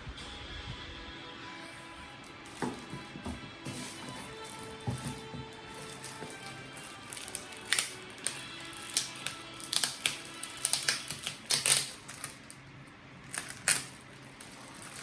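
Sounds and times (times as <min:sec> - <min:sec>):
faint background music: 0:00.0 - 0:15.0
plastic packaging clicks and rustles: 0:02.2 - 0:15.0.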